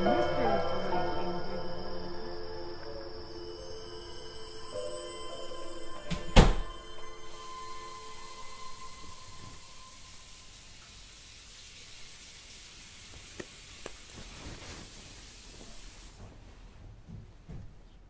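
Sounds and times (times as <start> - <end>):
steady hiss: 0.0 - 16.8.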